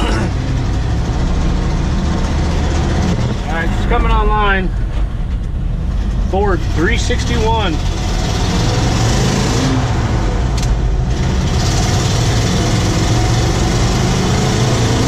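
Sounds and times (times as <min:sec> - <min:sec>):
road noise: 0:00.0 - 0:15.0
truck engine running: 0:00.0 - 0:15.0.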